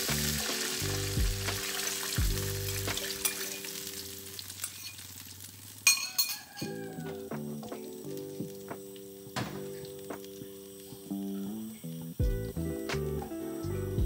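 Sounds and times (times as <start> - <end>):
liquid sizzling in hot oil: 0.0 - 12.7.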